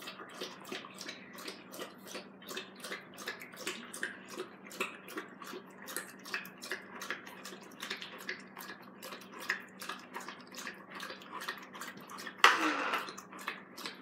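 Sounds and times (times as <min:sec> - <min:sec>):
dog lapping water: 0:00.0 - 0:14.0.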